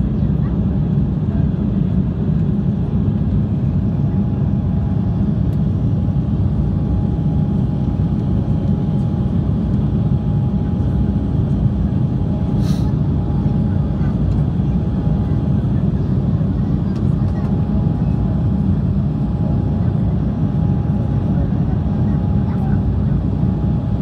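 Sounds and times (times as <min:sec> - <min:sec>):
jet engine roar in cabin: 0:00.0 - 0:24.0.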